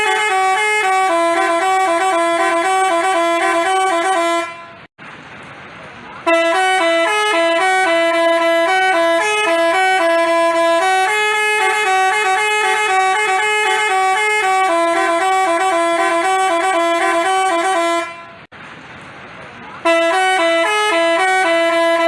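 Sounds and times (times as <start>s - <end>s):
bus horn playing a tune: 0.0s - 4.9s, 6.2s - 18.5s, 19.8s - 22.0s.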